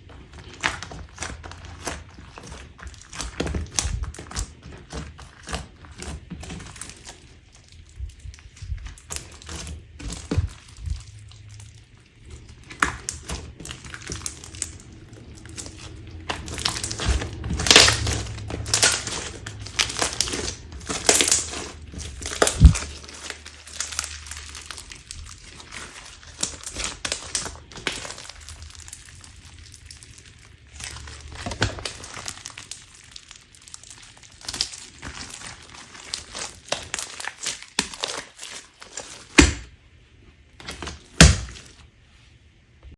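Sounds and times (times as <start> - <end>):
slime crackling and popping: 0.0 - 39.7, 40.6 - 41.8.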